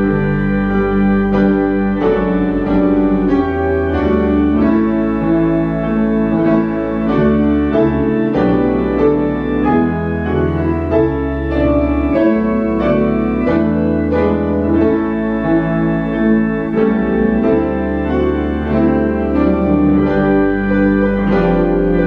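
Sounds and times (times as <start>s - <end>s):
long held bass notes: 0.0s - 22.0s
slow organ chords: 0.0s - 22.0s.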